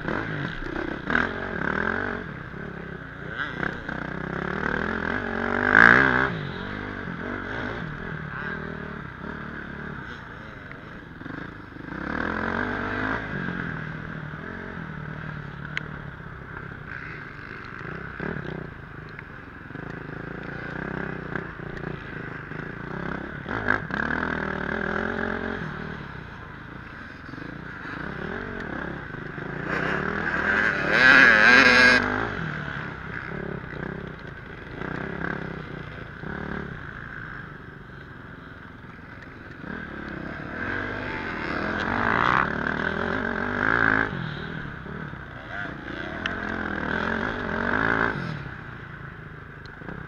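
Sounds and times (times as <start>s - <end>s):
motocross bike engine revving: 0.0s - 50.0s.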